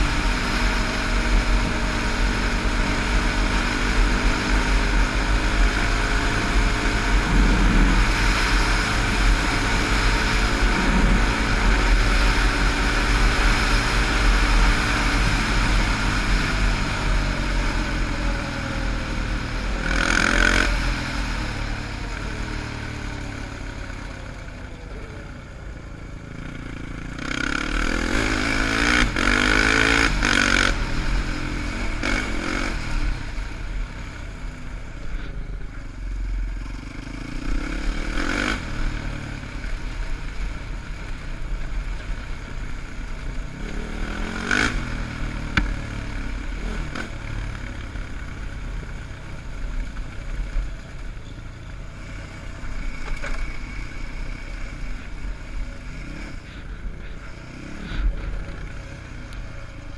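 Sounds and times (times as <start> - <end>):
quad bike engine revving: 0.0 - 25.4, 26.2 - 34.6, 36.5 - 50.4, 51.8 - 59.9.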